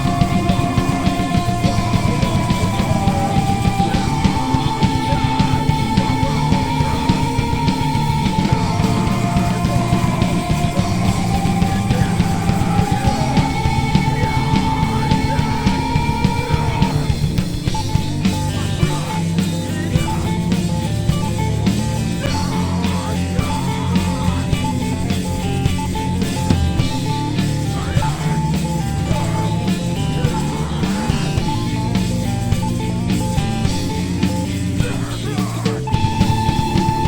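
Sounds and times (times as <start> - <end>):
bass guitar: 0.0 - 37.0
drum kit beat: 0.0 - 37.0
electric guitar: 0.0 - 37.0.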